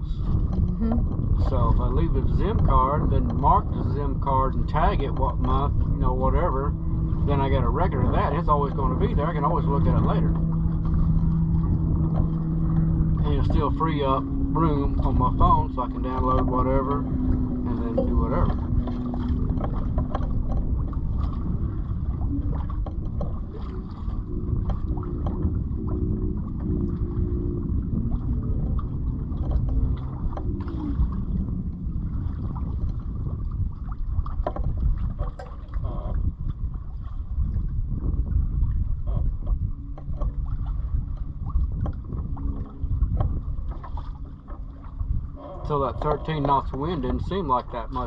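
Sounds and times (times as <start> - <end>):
water moving along hull: 0.0 - 48.0
wind buffeting microphone: 0.0 - 48.0.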